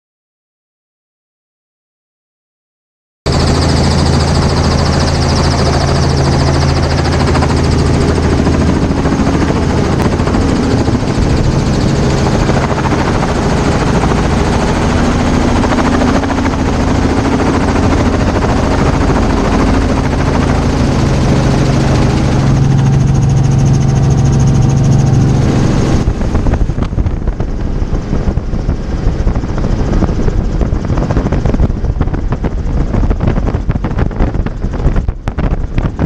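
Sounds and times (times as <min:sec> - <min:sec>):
helicopter rotor and engine: 0:03.3 - 0:36.0.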